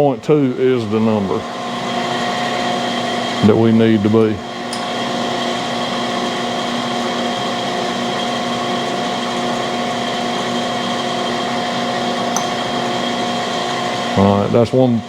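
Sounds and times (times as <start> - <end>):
electric machine motors humming: 0.0 - 15.0.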